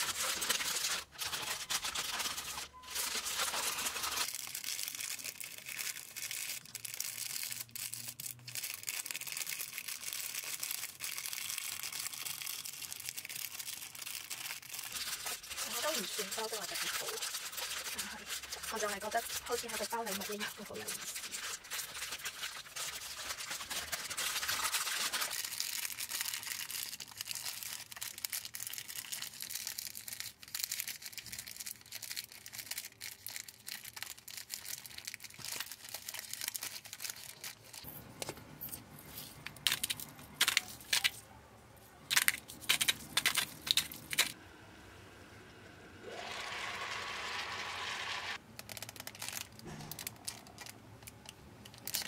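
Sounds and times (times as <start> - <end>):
sharp paper crackles: 0.0 - 38.0, 39.0 - 41.3, 42.0 - 44.4, 48.4 - 52.0
paper wrap crinkling: 0.0 - 44.4, 48.4 - 52.0.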